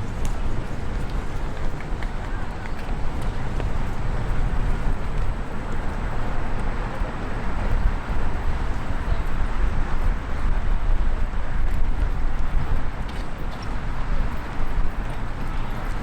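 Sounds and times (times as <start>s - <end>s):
city background noise: 0.0s - 16.0s
wind buffeting microphone: 0.0s - 16.0s.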